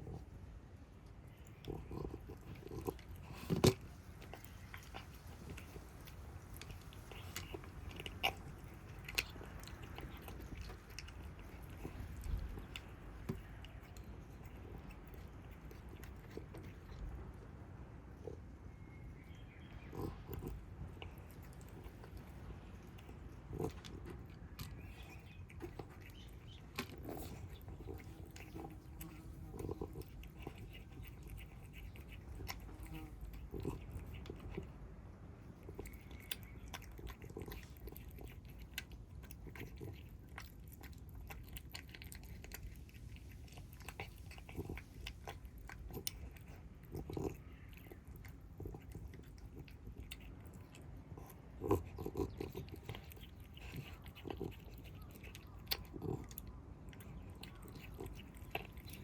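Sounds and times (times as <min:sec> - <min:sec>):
kittens crunching food: 0:00.0 - 0:59.0.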